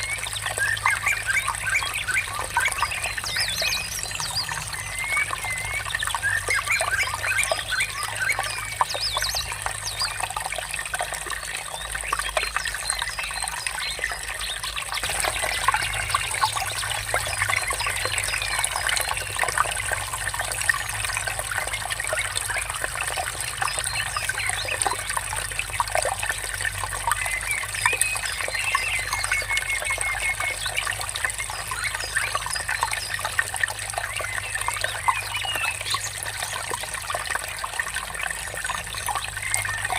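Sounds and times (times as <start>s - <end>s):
small birds chirping: 0.0s - 39.9s
stream babbling: 0.0s - 39.9s.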